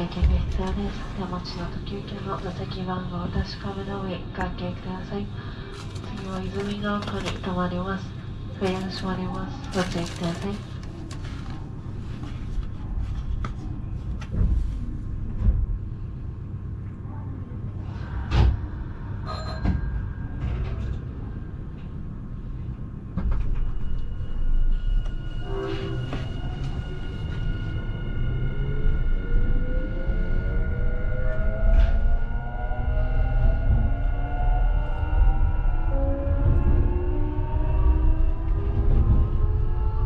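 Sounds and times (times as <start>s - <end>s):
low train rumble: 0.0s - 40.0s.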